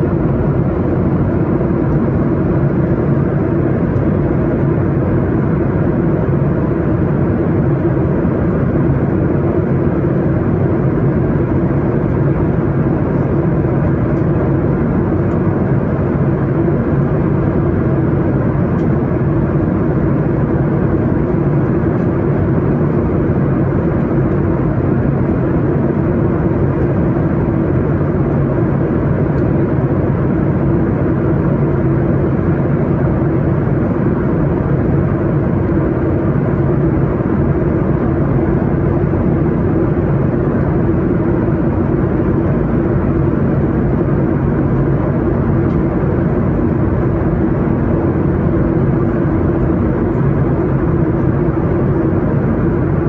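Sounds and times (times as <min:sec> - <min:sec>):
airliner cabin noise: 0:00.0 - 0:53.0.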